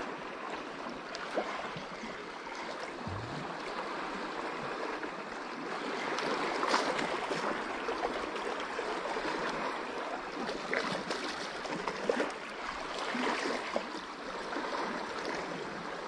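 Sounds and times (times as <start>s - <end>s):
sea waves lapping against rocks: 0.0s - 16.0s.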